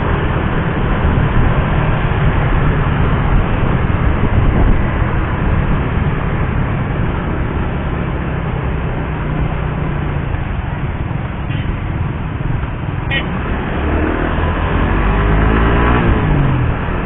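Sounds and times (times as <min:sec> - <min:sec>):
motorcycle engine running: 0:00.0 - 0:15.2
wind and road noise: 0:00.0 - 0:17.0.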